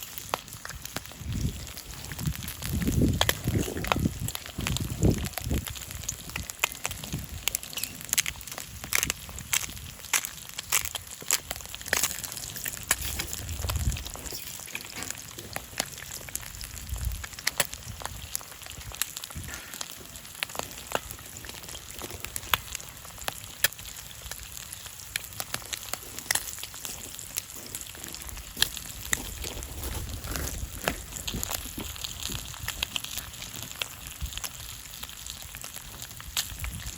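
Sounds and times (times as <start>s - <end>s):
bacon and eggs sizzling: 0.0s - 36.9s.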